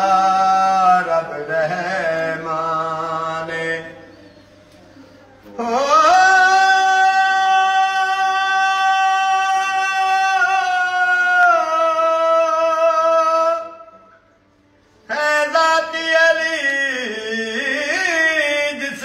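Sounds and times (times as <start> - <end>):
elderly man singing lament: 0.0 - 4.0, 5.6 - 14.0, 15.1 - 19.0.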